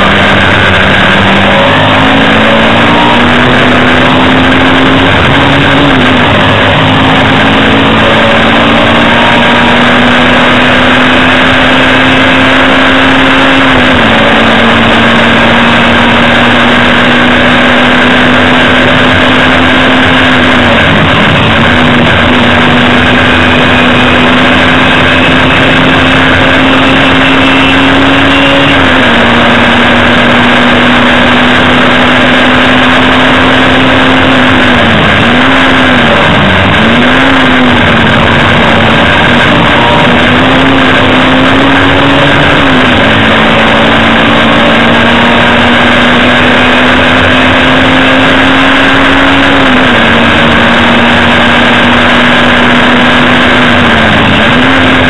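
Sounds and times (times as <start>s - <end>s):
race car engine pulling hard: 0.0s - 55.0s
road and wind noise: 0.0s - 55.0s.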